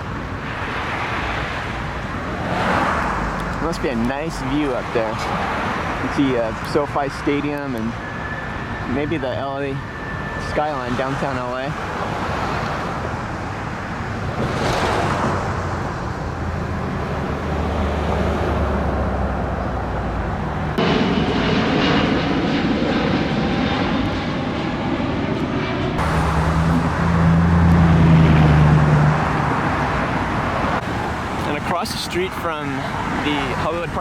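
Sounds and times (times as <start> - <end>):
engine hum of passing vehicles: 0.0 - 34.0.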